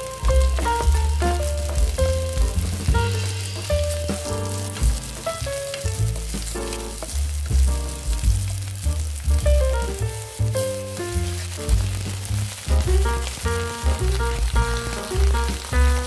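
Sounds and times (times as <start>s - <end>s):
background music with bass: 0.0s - 16.0s
vegetables sizzling in oil: 0.0s - 16.0s.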